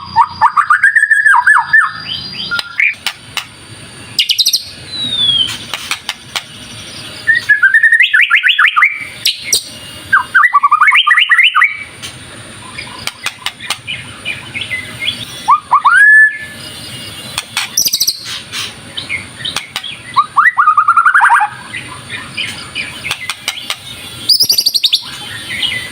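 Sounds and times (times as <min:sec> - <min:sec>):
songbird whistling song: 0:00.0 - 0:03.5, 0:04.2 - 0:25.9
soft bird chirps: 0:04.2 - 0:11.9, 0:12.6 - 0:25.9.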